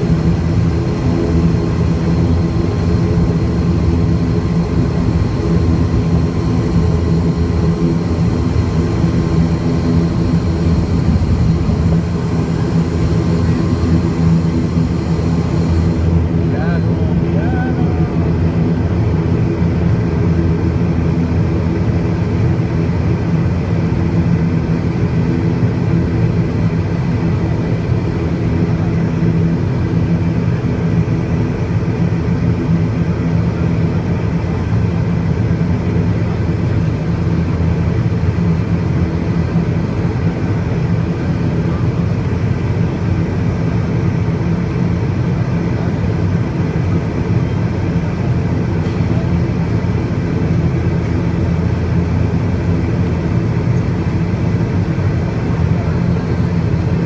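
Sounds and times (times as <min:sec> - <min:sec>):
low engine drone: 0:00.0 - 0:57.0.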